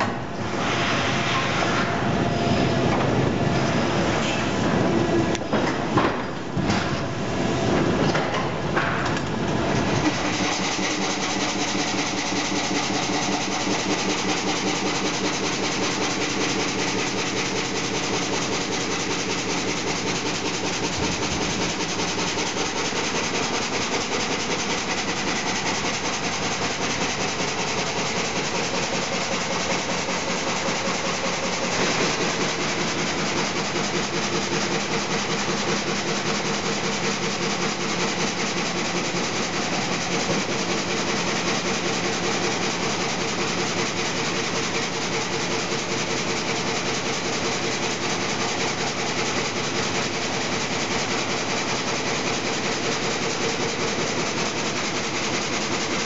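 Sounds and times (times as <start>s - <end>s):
sawmill machinery running: 9.5s - 56.0s
log saw rhythmic clatter: 10.0s - 56.0s.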